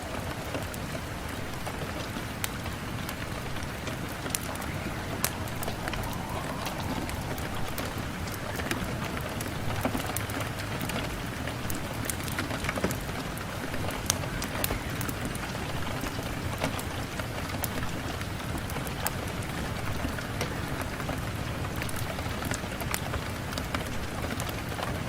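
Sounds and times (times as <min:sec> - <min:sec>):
rain on a window pane: 0:00.0 - 0:25.0.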